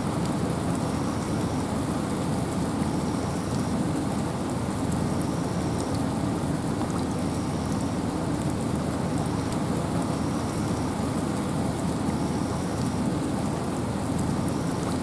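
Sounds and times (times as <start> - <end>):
rain falling in a forest: 0.0 - 15.0
wind: 0.0 - 15.0.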